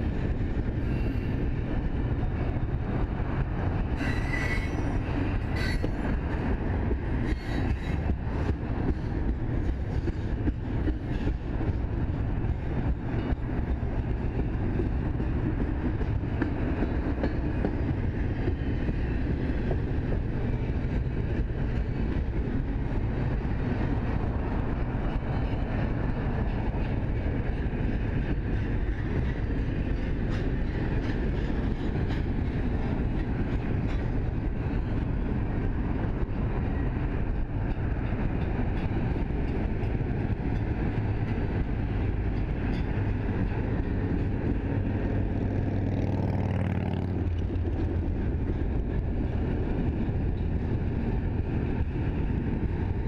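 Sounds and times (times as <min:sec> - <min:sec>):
freight train wheels on rails: 0:00.0 - 0:53.0.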